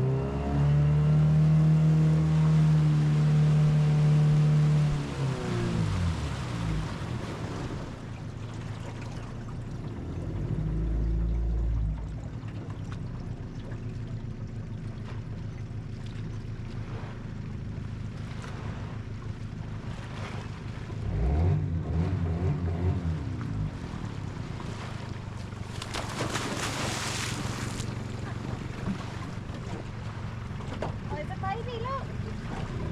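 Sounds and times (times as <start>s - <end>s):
outboard motor running: 0.0s - 32.9s
water wash: 0.9s - 32.9s.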